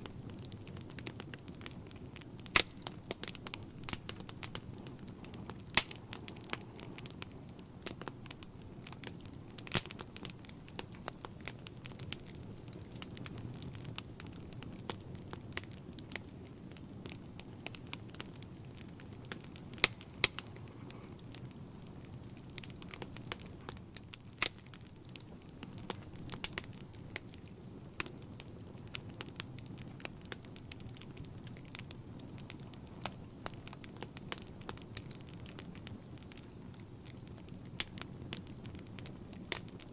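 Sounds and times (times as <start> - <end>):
fire crackles and pops: 0.0 - 39.9
low rumble of flame: 0.0 - 39.9.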